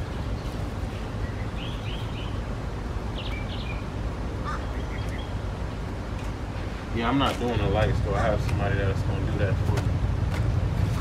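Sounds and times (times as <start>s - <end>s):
birds chirping: 0.0s - 9.6s
steady low rumble: 0.0s - 11.0s.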